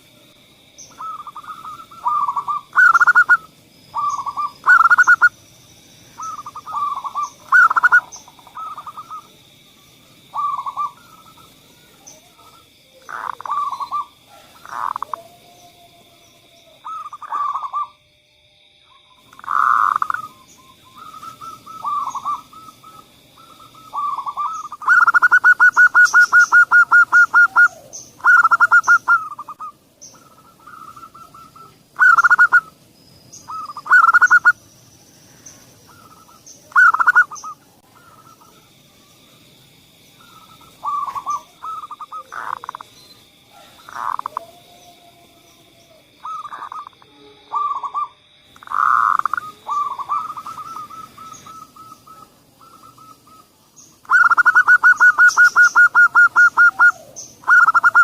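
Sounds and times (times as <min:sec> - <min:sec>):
doves cooing: 0:00.0 - 0:05.4, 0:06.0 - 0:09.4, 0:10.0 - 0:18.0, 0:19.2 - 0:39.0, 0:40.0 - 0:58.0.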